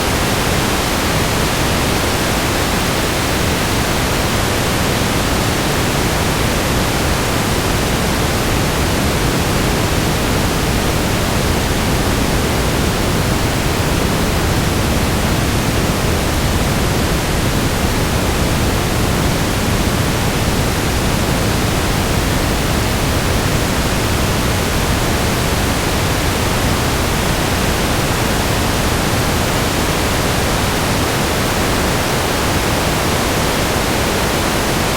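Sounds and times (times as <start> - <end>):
loud static hiss: 0.0 - 34.9.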